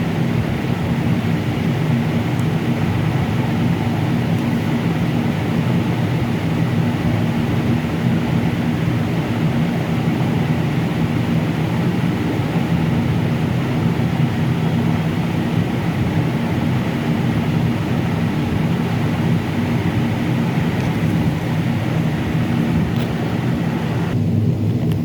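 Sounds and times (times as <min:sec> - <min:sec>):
low mechanical drone with hum: 0:00.0 - 0:25.0.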